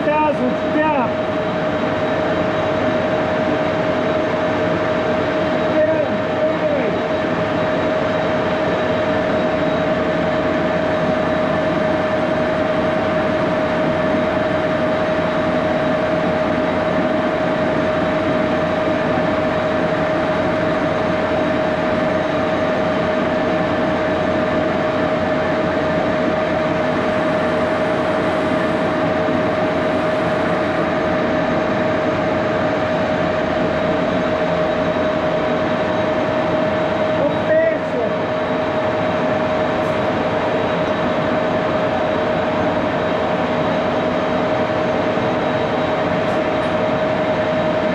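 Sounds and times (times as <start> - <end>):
lathe running with whine: 0.0 - 47.9.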